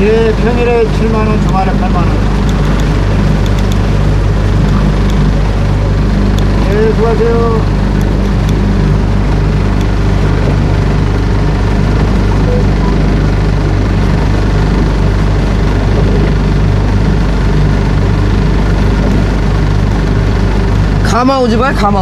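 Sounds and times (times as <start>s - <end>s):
motorboat engine droning: 0.0s - 22.0s.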